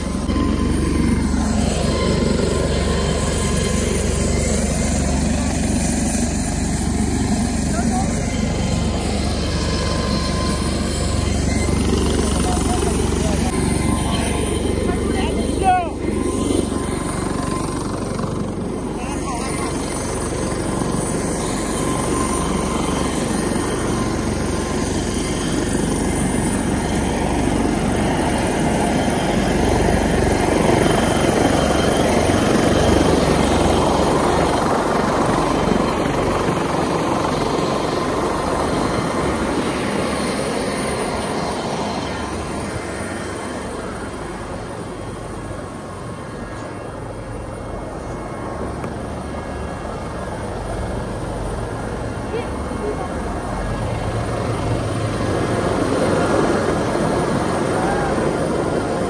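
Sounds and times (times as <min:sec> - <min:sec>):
helicopter rotor and engine: 0:00.0 - 0:59.0.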